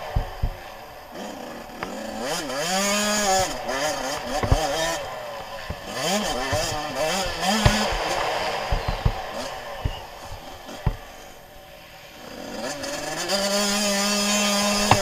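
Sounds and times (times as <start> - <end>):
sharp thumps: 0.0 - 11.8, 12.8 - 15.0
motorcycle engine revving: 0.0 - 15.0.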